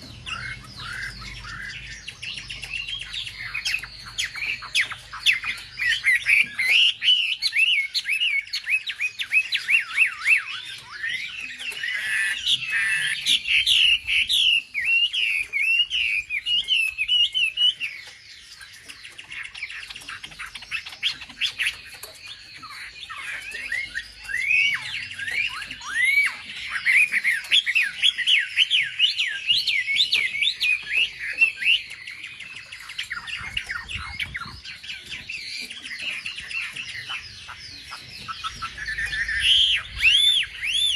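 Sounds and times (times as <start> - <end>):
songbird singing high chirps: 0.0 - 40.9.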